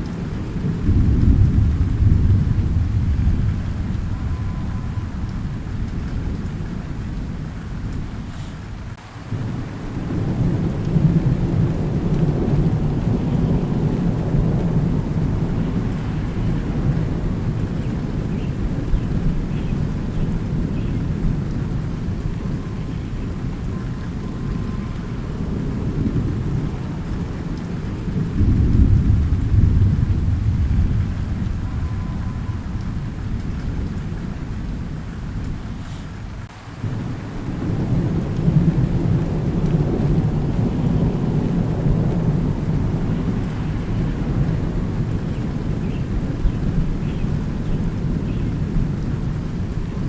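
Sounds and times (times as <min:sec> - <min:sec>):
steady rain: 0:00.0 - 0:50.0
thunder rumbling: 0:00.0 - 0:50.0.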